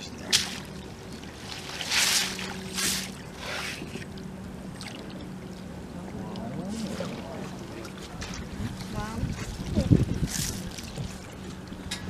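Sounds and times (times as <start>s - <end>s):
steady low hum: 0.0s - 12.0s
water splashing: 0.0s - 12.0s.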